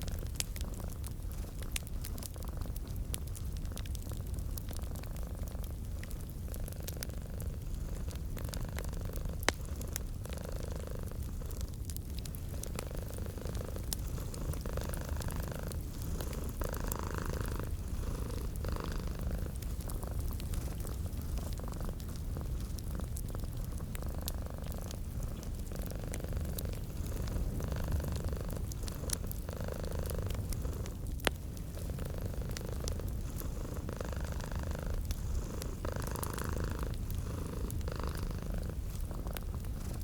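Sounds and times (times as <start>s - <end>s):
cat purring: 0.0s - 40.0s
fireplace crackling: 0.0s - 40.0s.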